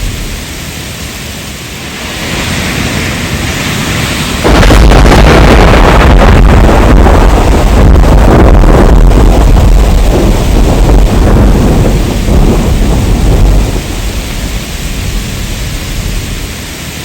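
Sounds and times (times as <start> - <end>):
heavy rain: 0.0 - 17.0
thunder rolling and crackling: 0.0 - 17.0.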